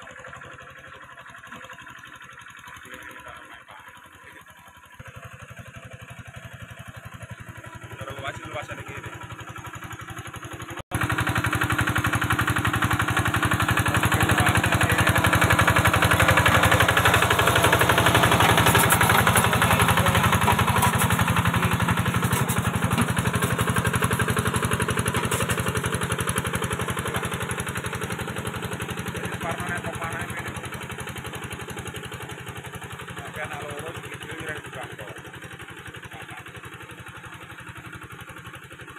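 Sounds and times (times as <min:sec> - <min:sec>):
engine running with rapid beat: 0:00.0 - 0:38.9.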